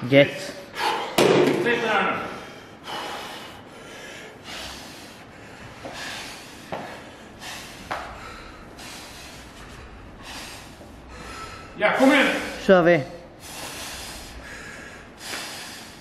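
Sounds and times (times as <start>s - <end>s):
man breathing heavily: 0.0s - 1.3s, 1.9s - 16.0s.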